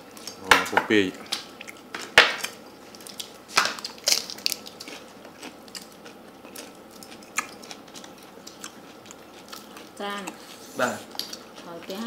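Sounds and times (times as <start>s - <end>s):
eating crunches: 1.1s - 12.0s.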